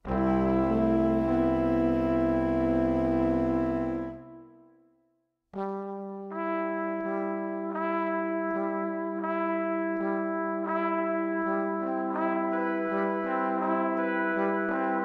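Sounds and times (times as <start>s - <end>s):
brass instruments playing chords: 0.0s - 4.4s, 5.6s - 15.0s.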